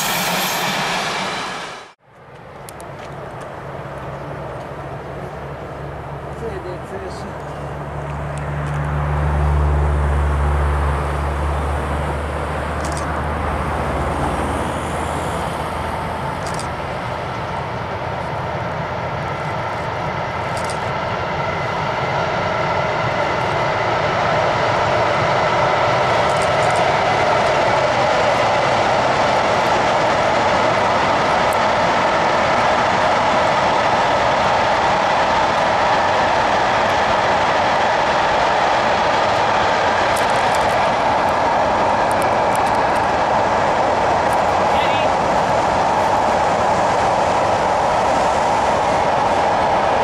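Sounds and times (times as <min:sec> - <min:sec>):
freight train passing: 0:00.0 - 0:50.0.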